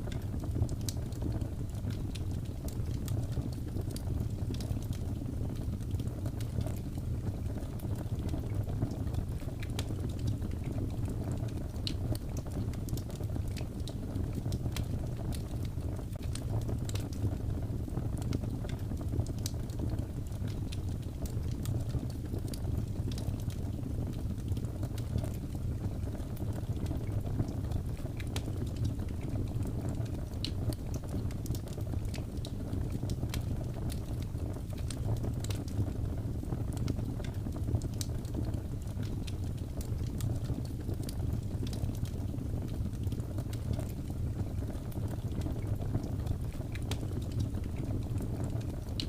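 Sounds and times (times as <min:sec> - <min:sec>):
low fire rumble: 0:00.0 - 0:49.0
wood fire crackling: 0:00.0 - 0:49.0.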